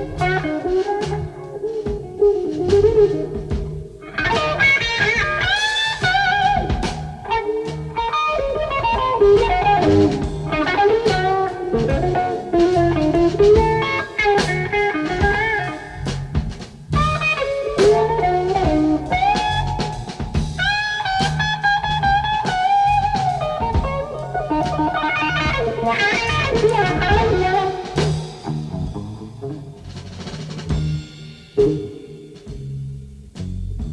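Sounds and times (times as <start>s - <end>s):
electric blues guitar solo: 0.0s - 30.6s, 31.6s - 32.6s
bass and drums: 0.0s - 33.9s.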